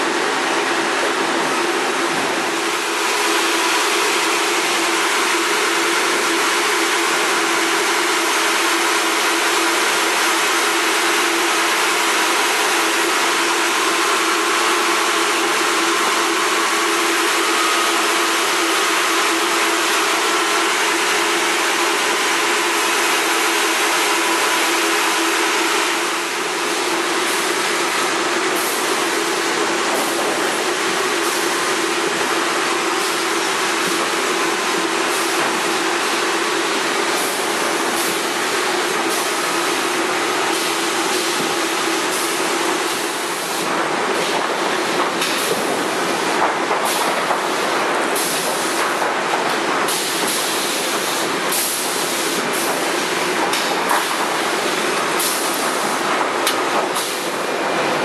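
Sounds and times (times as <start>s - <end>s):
machinery hum: 0.0s - 58.0s.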